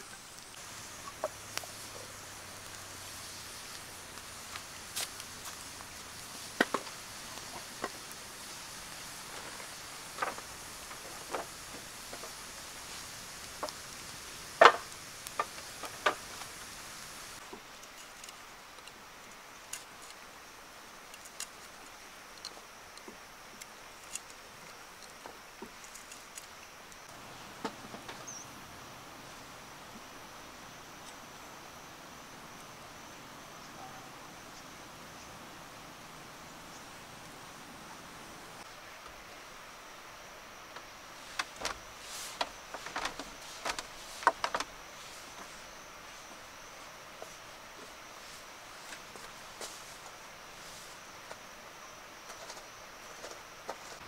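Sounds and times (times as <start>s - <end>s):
outdoor ambience hiss: 0.0s - 54.0s.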